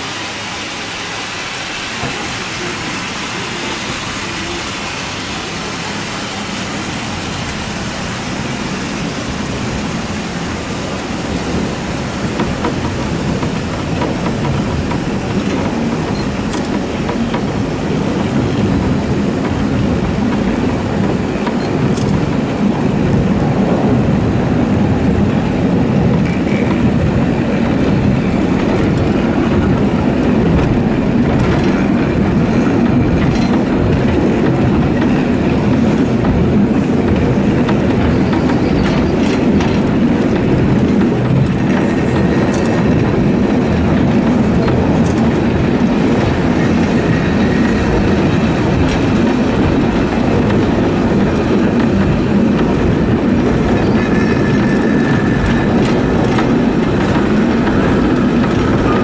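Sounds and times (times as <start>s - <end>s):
wheels rumbling on rails: 0.0s - 59.0s.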